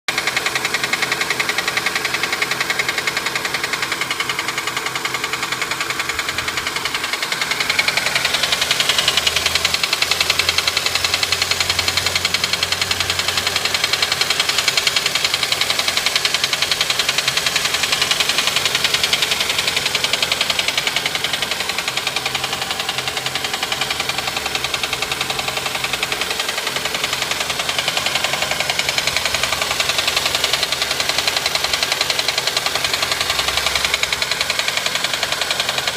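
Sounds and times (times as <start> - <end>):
car engine running: 0.1 - 35.9
fast engine tapping: 0.1 - 35.9.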